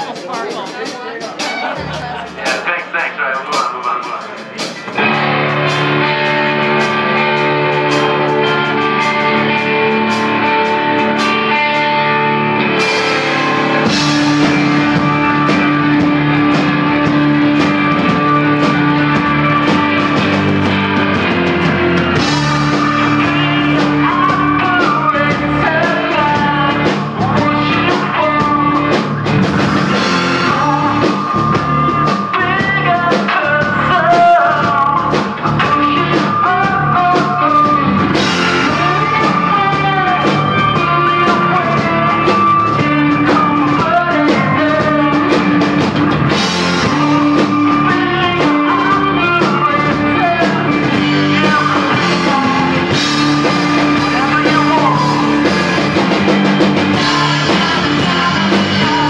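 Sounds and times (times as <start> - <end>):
bass and drums: 0.0 - 59.0
electric guitars ringing: 0.0 - 59.0
man singing: 0.0 - 59.0.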